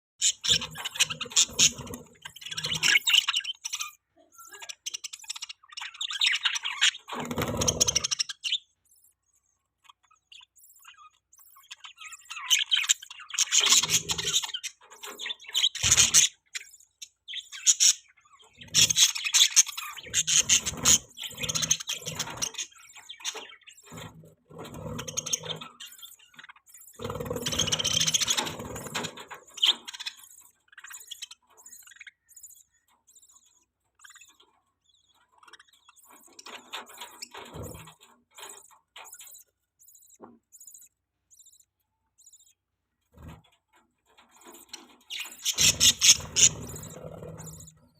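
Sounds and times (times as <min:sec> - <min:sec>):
budgerigars chirping: 0:00.2 - 0:43.6, 0:44.2 - 0:47.9.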